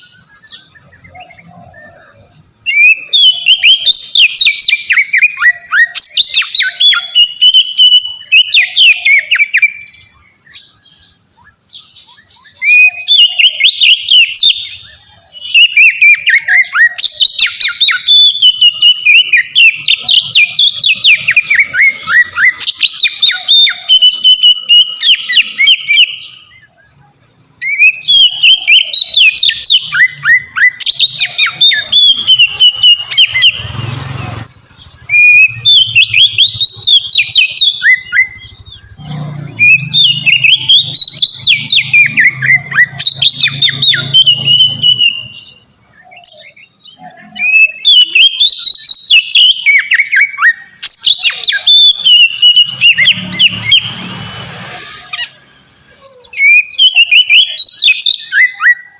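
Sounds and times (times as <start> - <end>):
bird singing whistled song: 0.0 - 34.1, 34.8 - 54.2, 54.8 - 58.9.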